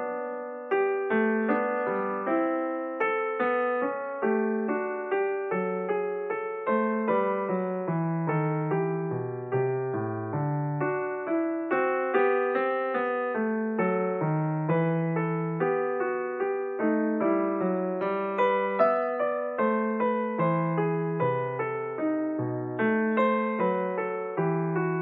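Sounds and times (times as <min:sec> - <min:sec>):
piano playing notes and chords: 0:00.0 - 0:25.0.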